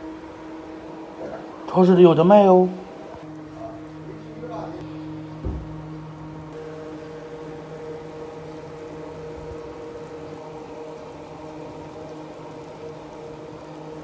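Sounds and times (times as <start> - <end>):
steady low hum: 0.0 - 14.0
stew boiling in a wok: 0.0 - 14.0.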